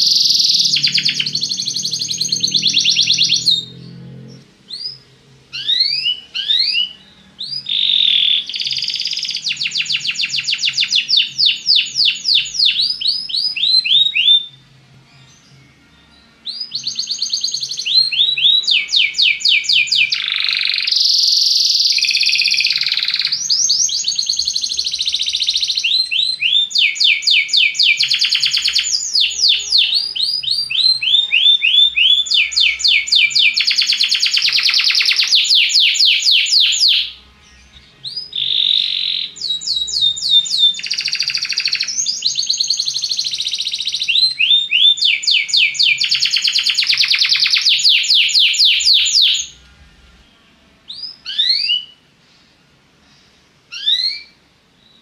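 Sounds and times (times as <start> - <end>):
canary singing trills: 0.0 - 52.1, 53.1 - 55.0.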